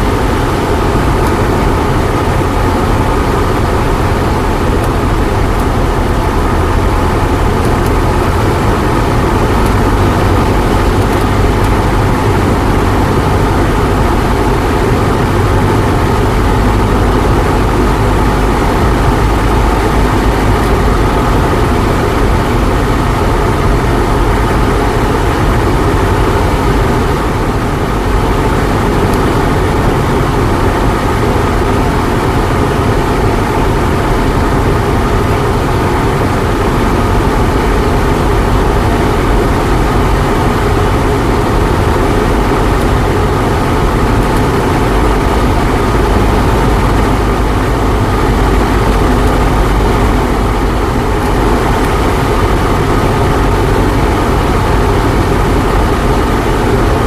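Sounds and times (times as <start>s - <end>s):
propeller airplane engine drone: 0.0s - 57.0s.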